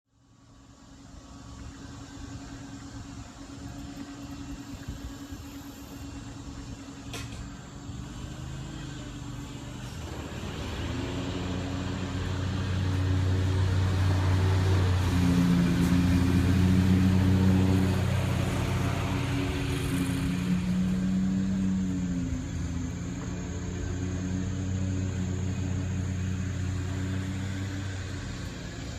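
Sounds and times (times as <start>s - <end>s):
vehicle engine running: 0.1s - 28.9s.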